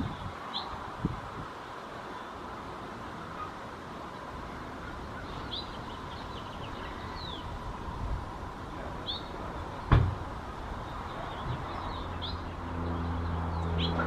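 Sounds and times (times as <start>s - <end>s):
birds chirping: 0.0s - 0.9s, 1.7s - 14.0s
outdoor background noise: 0.0s - 14.0s.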